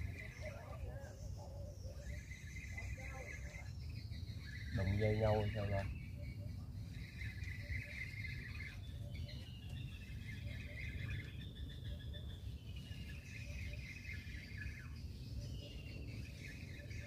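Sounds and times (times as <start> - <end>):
birds chirping trills: 0.0 - 17.0
steady low rumble: 0.0 - 17.0.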